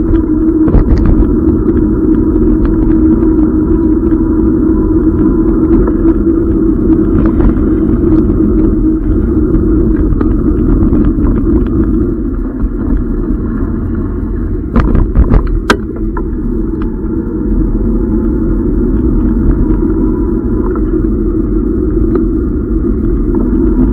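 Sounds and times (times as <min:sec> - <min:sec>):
bike tyres rumbling on wet road: 0:00.0 - 0:23.9.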